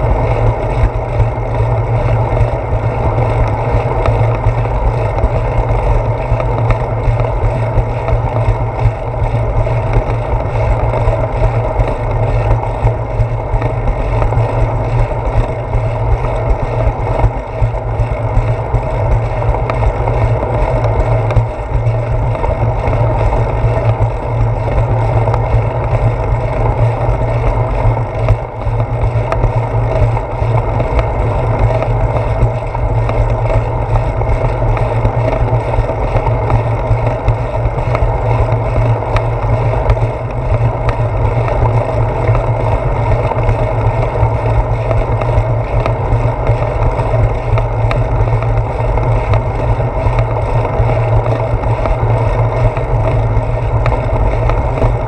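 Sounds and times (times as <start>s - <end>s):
wind and road vibration rumble: 0.0s - 55.0s.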